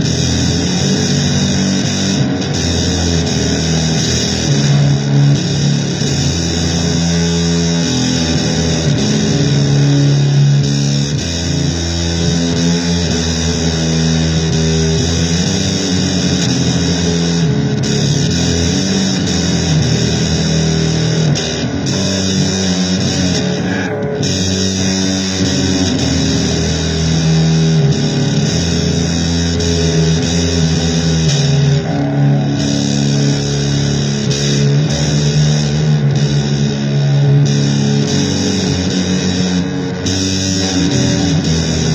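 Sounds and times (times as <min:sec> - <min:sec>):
electric guitar playing blues-rock: 0:00.0 - 0:41.9.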